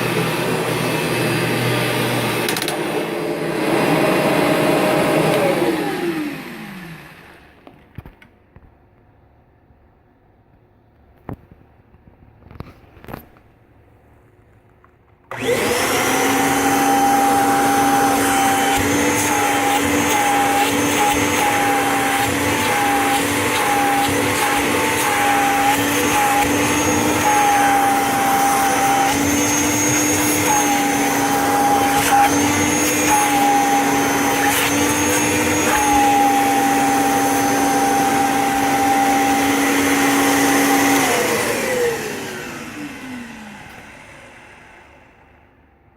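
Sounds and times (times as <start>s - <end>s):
vacuum cleaner motor whine: 0.0s - 7.7s, 15.3s - 45.8s.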